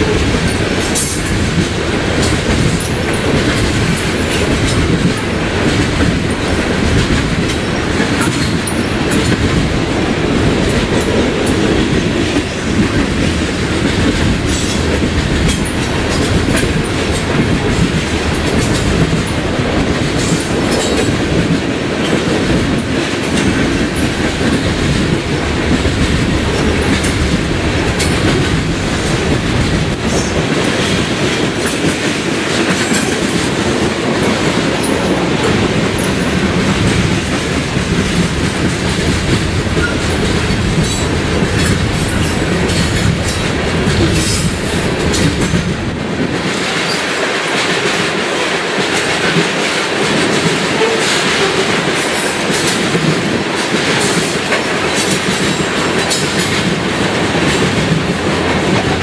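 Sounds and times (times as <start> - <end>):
deep train rumble: 0.0 - 59.0
train wheels clickety-clacking: 0.0 - 59.0.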